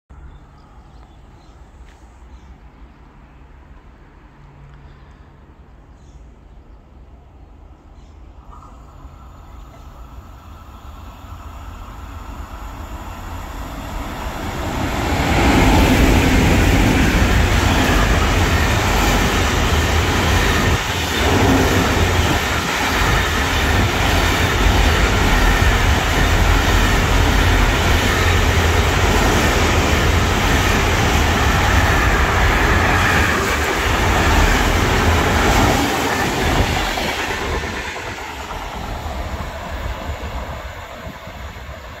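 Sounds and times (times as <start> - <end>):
freight train passing: 6.3 - 42.0.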